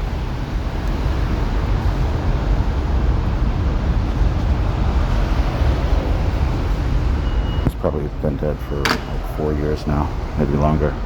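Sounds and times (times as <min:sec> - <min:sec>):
busy station ambience rumble: 0:00.0 - 0:11.0.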